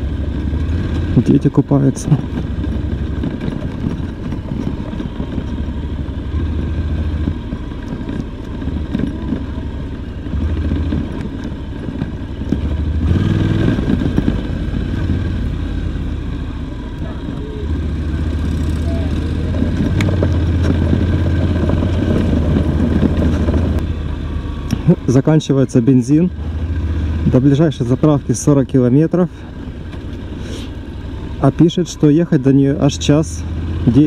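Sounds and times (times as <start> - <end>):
motorcycle engine droning: 0.0 - 34.0.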